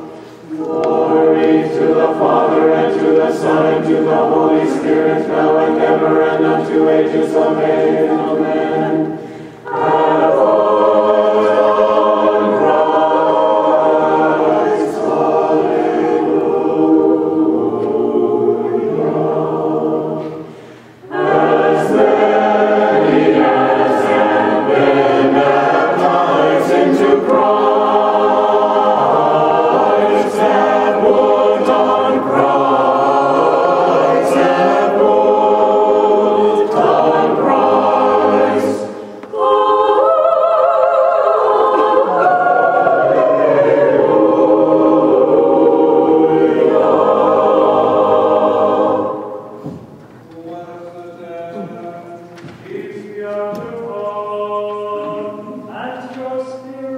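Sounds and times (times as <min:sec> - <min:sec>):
church choir singing unaccompanied: 0:00.0 - 0:56.9.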